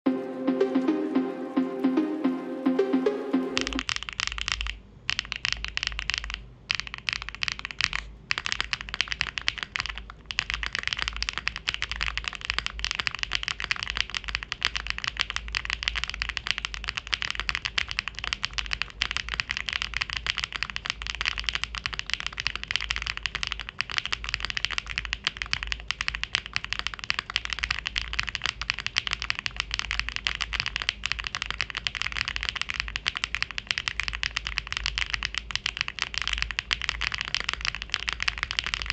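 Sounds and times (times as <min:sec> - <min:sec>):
mechanical keyboard typing: 0:03.4 - 0:38.9.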